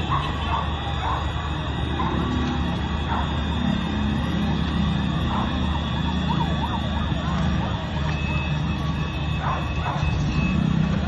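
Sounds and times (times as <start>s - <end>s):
emergency vehicle sirens wailing: 0.0s - 11.0s
street noise: 0.0s - 11.0s.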